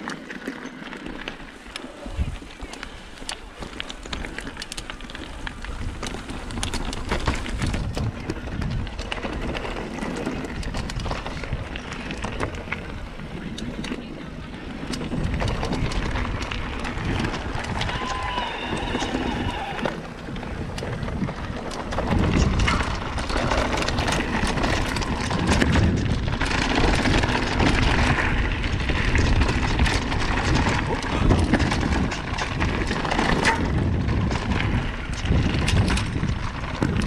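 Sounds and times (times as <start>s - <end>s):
bike rattling over bumps: 0.0s - 37.0s
tyres rolling over rocks: 0.0s - 37.0s
wind on microphone: 2.0s - 3.1s, 4.1s - 37.0s.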